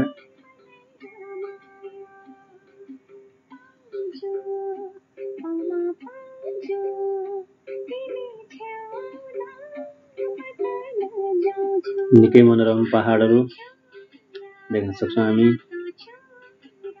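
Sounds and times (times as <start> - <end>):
woman singing slow melody: 0.0 - 17.0.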